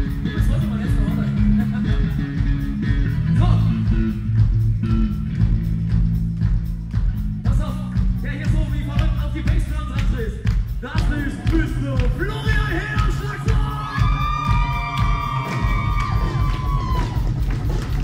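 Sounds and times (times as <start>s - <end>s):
heavy bass line: 0.0s - 18.0s
live rock band playing: 0.0s - 18.0s
steady drum beat: 0.0s - 18.0s.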